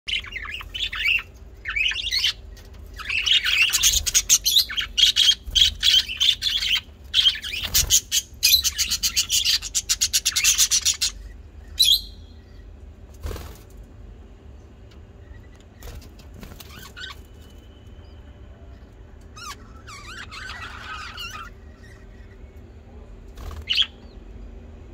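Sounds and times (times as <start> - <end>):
bird chirping: 0.1 - 12.8, 15.2 - 24.4.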